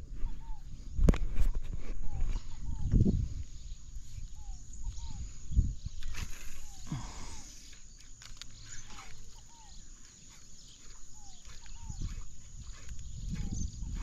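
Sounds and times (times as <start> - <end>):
birds calling with descending notes: 2.0 - 14.0.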